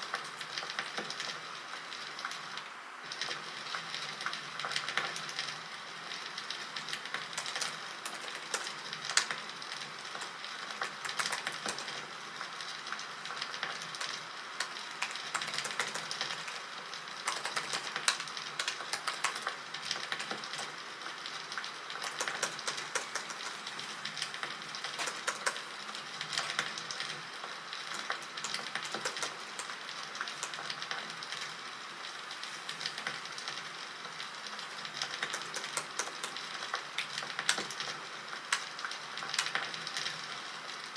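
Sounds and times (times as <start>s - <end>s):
steady hiss: 0.0s - 40.9s
wood fire crackling and popping: 0.0s - 40.9s.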